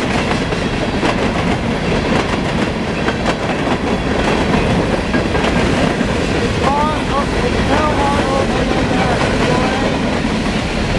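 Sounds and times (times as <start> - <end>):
wheels clacking on rail joints: 0.0 - 10.7
freight train rumble: 0.0 - 10.9.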